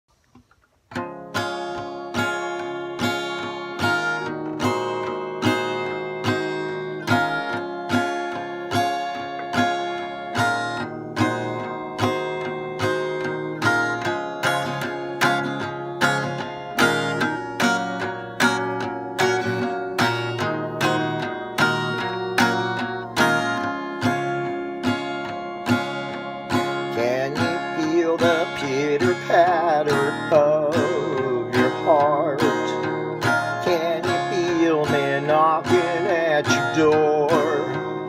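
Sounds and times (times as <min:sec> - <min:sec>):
acoustic guitar strumming: 0:00.2 - 0:38.0.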